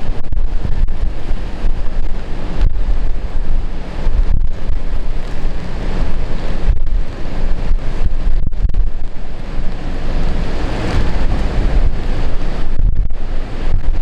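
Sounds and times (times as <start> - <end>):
heavy storm surf: 0.0 - 14.0
strong wind buffeting microphone: 0.0 - 14.0.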